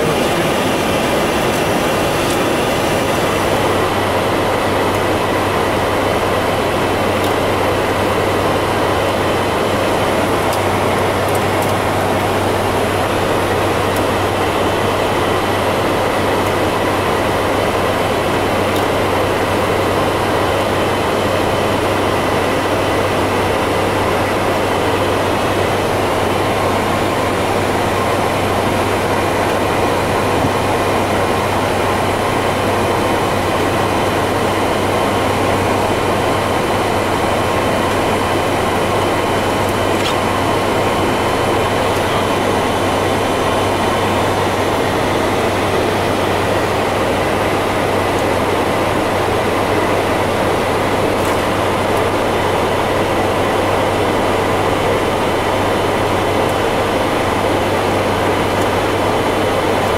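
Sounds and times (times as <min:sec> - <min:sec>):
rush of air in cockpit: 0:00.0 - 0:52.2.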